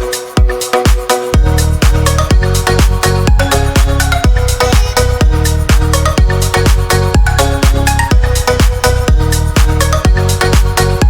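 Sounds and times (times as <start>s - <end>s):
electronic dance music: 0.0s - 11.0s
kick drum: 0.0s - 11.0s
bass line: 1.4s - 11.0s.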